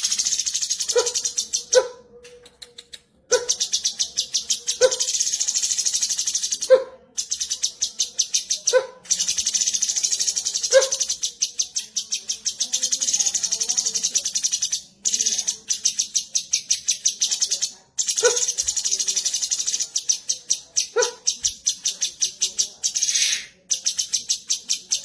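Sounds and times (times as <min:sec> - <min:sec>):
bird chattering trill: 0:03.3 - 0:25.0.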